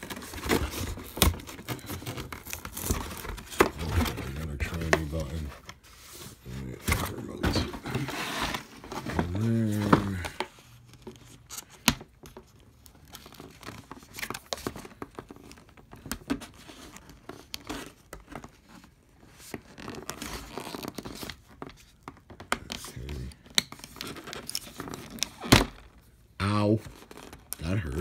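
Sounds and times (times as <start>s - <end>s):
cardboard rustling and tearing: 0.0s - 26.1s.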